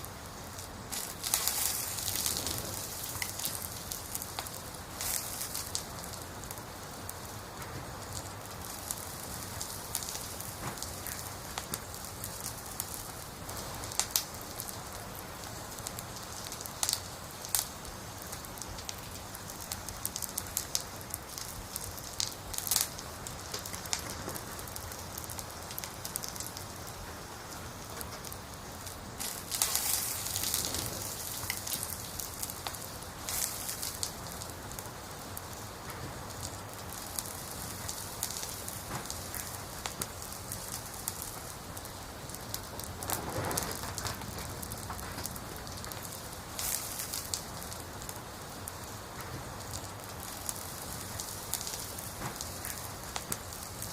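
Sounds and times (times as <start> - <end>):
burning logs popping and crackling: 0.0 - 53.9
fire hissing: 0.0 - 53.9.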